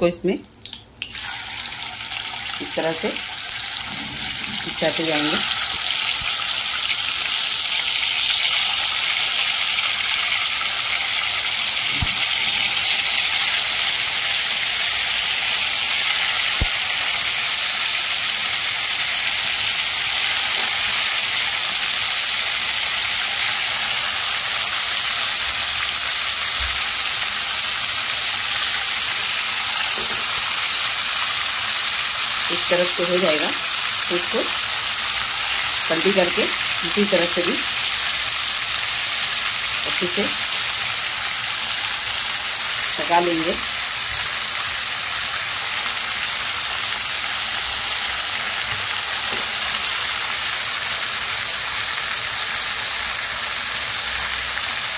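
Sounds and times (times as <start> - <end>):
chicken sizzling in hot oil: 0.6 - 54.9.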